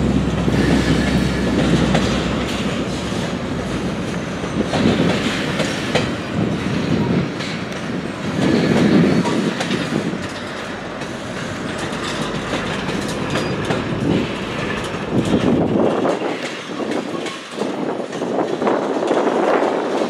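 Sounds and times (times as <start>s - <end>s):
freight train rumbling past: 0.0s - 20.0s
steel wheels clicking on rail joints: 0.0s - 20.0s.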